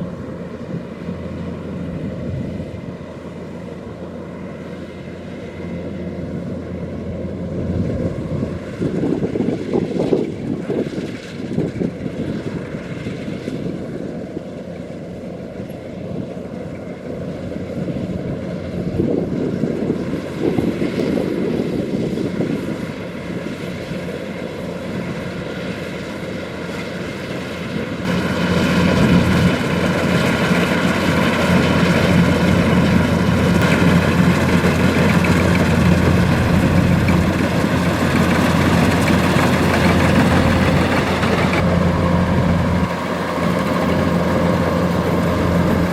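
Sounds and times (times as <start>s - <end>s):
harvester engine and machinery drone: 0.0s - 45.9s.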